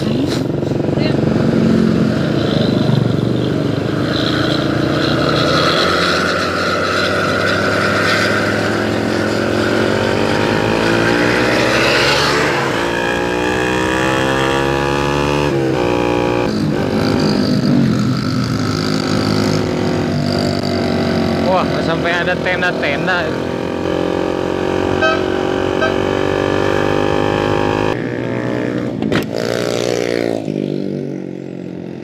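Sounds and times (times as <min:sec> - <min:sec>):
motorcycle engine: 0:00.0 - 0:32.0
wind and road noise: 0:00.0 - 0:32.0.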